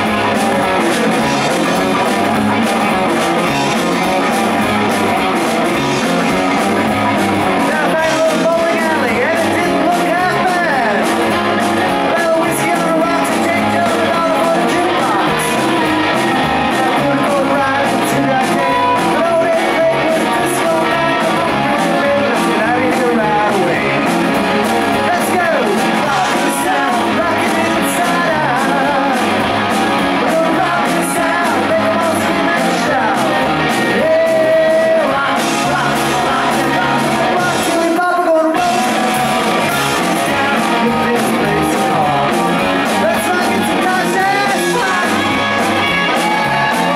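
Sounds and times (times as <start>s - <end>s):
man singing: 0.0s - 2.4s, 5.6s - 46.9s
drums: 0.0s - 46.9s
electric guitars: 0.0s - 46.9s.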